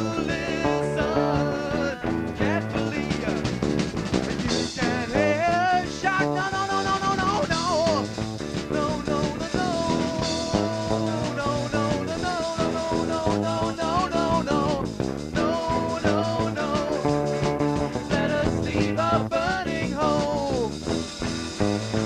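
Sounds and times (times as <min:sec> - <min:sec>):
drums: 0:00.0 - 0:22.0
electric guitar: 0:00.0 - 0:22.0
rock band playing: 0:00.0 - 0:22.0.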